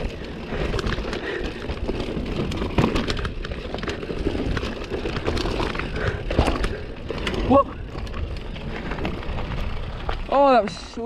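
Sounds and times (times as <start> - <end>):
bike rattling: 0.0 - 11.0
bike tyres rolling on dirt: 0.0 - 11.0.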